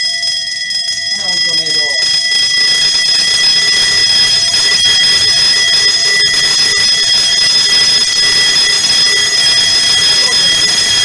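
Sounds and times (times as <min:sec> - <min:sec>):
electric fire alarm bell ringing: 0:00.0 - 0:11.0.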